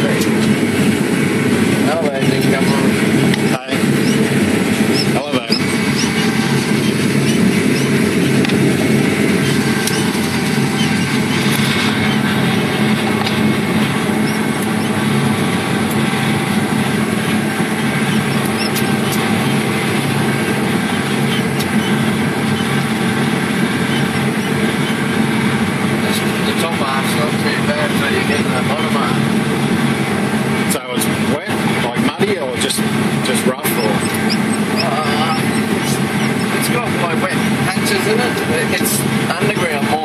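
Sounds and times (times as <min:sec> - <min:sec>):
harvester engine droning: 0:00.0 - 0:40.0.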